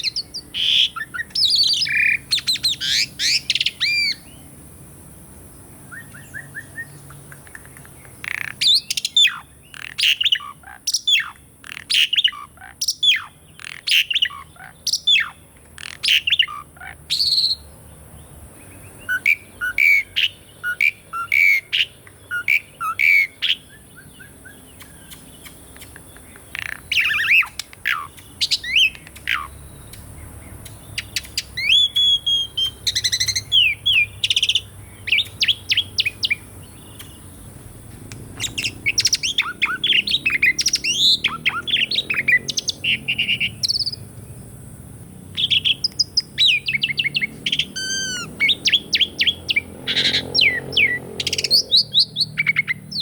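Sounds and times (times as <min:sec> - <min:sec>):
bird whistles and chirps: 0:00.0 - 0:04.4, 0:05.9 - 0:17.7, 0:19.0 - 0:30.0, 0:30.7 - 0:37.3, 0:38.4 - 0:44.0, 0:45.4 - 0:53.0.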